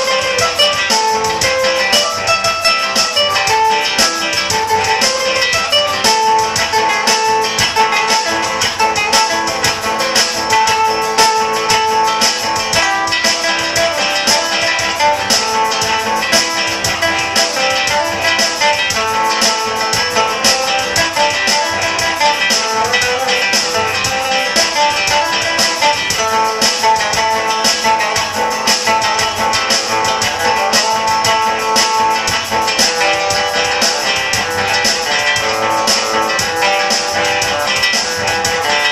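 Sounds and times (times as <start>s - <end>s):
fast guitar strumming with melody: 0.0s - 38.9s.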